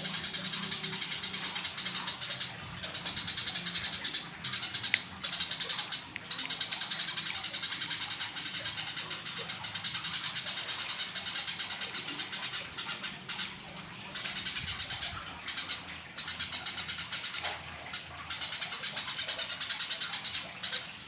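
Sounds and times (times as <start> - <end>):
sparrows chirping: 0.0 - 20.9.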